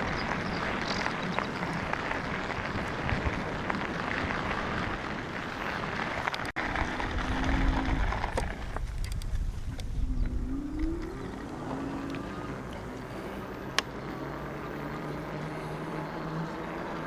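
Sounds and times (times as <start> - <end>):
small electric motor whine: 0.0 - 17.0
wind rumbling on microphone: 0.0 - 17.0.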